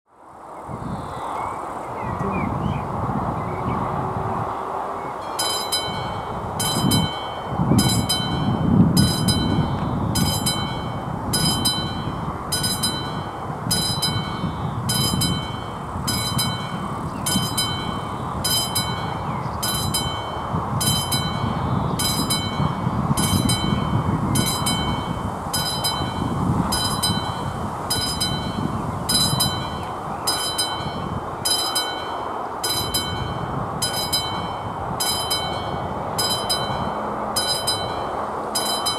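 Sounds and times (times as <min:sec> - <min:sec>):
level crossing bell ringing: 0:05.2 - 0:38.9.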